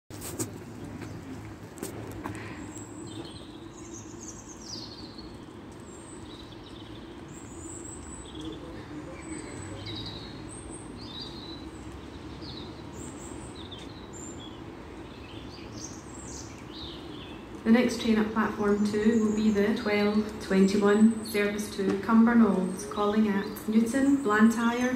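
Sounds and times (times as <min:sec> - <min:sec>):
birds chirping: 0:00.4 - 0:24.9.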